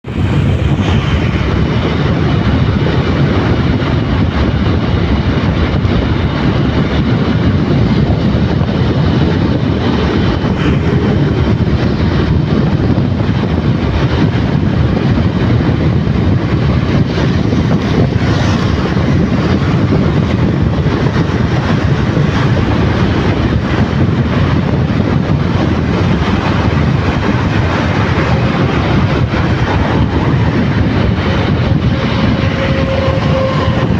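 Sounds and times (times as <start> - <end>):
motorcycle wind and engine noise: 0.0 - 33.9.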